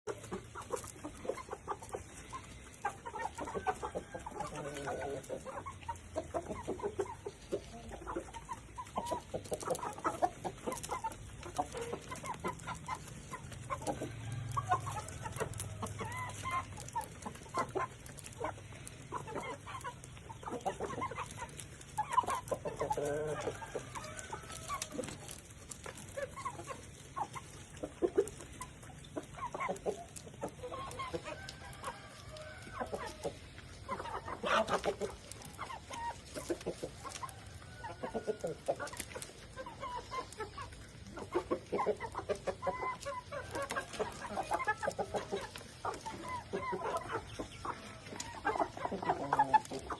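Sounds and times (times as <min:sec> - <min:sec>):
chickens clucking: 0:00.0 - 0:49.9.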